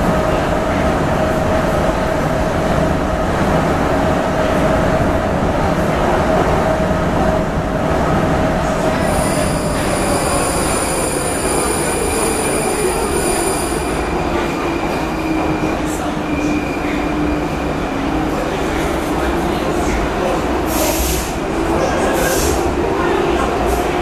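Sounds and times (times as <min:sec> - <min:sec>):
metro train rumbling in tunnel: 0:00.0 - 0:24.0.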